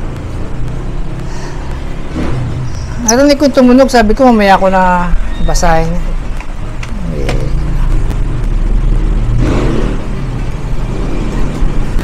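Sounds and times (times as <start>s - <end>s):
vehicle engine running: 0.0s - 4.2s, 6.2s - 12.0s.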